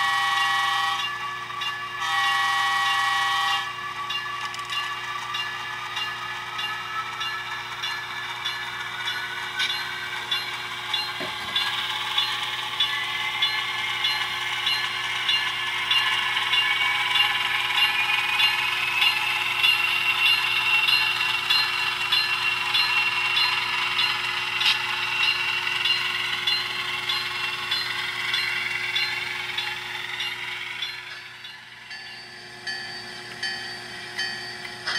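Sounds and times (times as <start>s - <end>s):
model train diesel engine sound: 0.0s - 34.9s.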